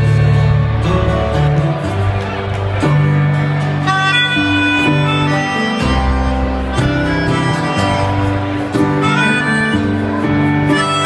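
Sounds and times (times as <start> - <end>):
bass line: 0.0 - 11.0
electric keyboard: 0.0 - 11.0
harmonica melody: 0.0 - 11.0
strummed acoustic guitar: 0.0 - 11.0.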